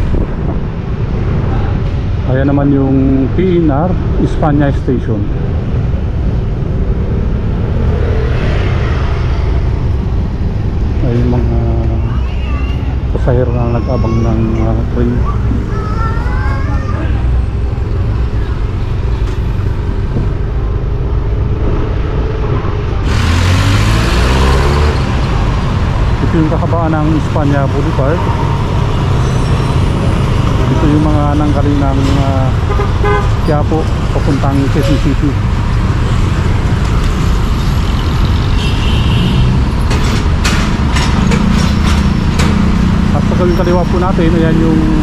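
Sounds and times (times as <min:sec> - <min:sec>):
traffic rumble: 0:00.0 - 0:45.0
loud rushing noise: 0:05.2 - 0:13.2, 0:15.2 - 0:45.0.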